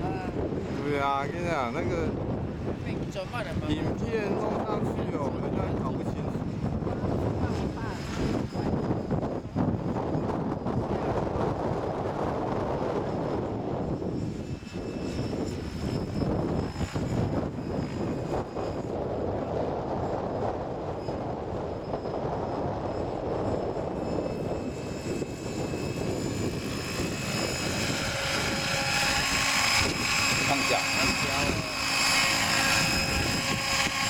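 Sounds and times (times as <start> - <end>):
helicopter rotor whine: 0.0 - 34.0
wind rumbling on microphone: 0.0 - 34.0.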